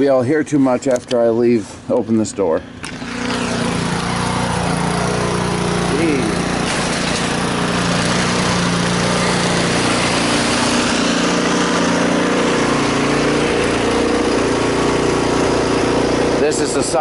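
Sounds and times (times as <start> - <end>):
snowblower engine idling: 1.4 - 17.0.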